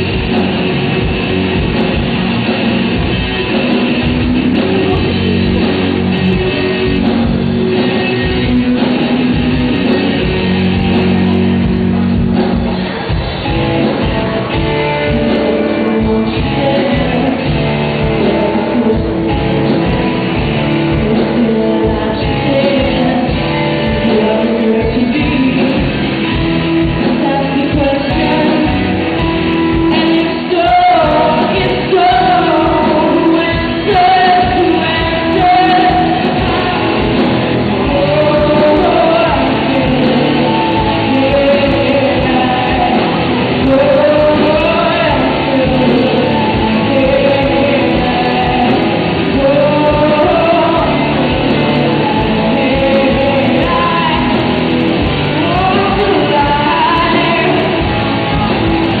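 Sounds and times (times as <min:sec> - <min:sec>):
bass guitar: 0:00.0 - 0:59.0
drums: 0:00.0 - 0:59.0
electric guitars: 0:00.0 - 0:59.0
person singing: 0:00.0 - 0:59.0.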